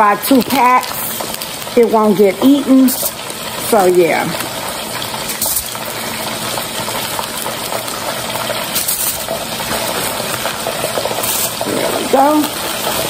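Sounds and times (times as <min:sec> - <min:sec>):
food sizzling in deep fryer: 0:00.0 - 0:13.0.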